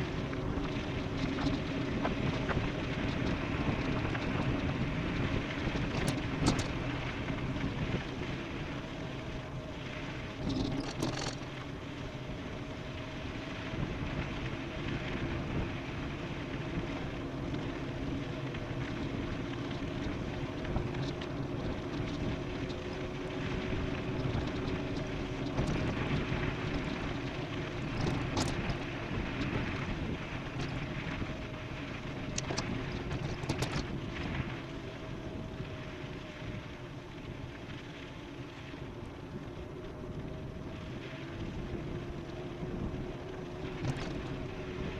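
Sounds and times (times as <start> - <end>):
wind on microphone: 0.0 - 44.9.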